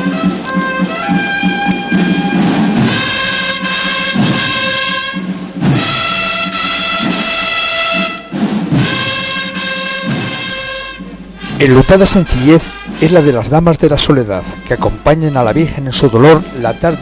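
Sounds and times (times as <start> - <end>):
brass band playing a march: 0.0 - 17.0
low drum beats: 0.0 - 17.0.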